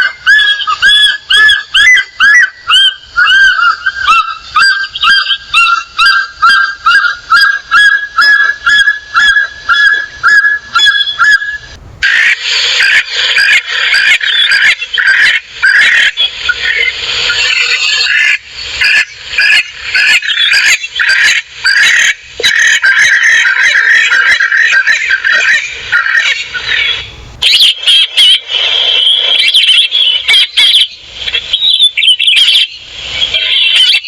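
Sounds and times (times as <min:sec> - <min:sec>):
bird whistling repeated notes: 0:00.0 - 0:34.0
chorus of harsh bird calls: 0:00.0 - 0:34.0.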